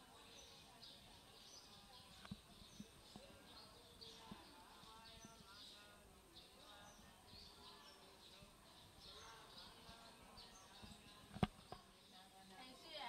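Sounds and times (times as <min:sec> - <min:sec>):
faint distant voices: 0:00.0 - 0:13.0
small birds chirping: 0:00.0 - 0:13.0.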